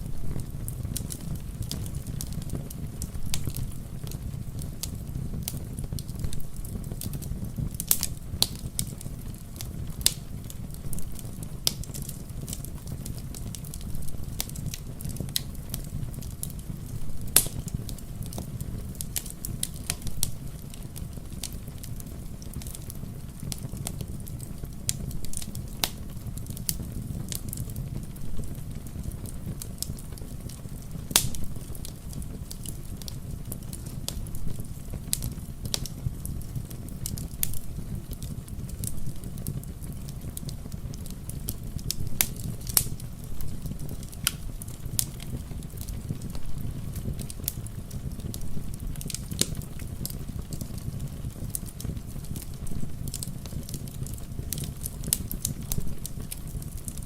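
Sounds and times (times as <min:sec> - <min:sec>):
fire snapping: 0:00.0 - 0:57.0
wood fire crackling: 0:00.0 - 0:57.0.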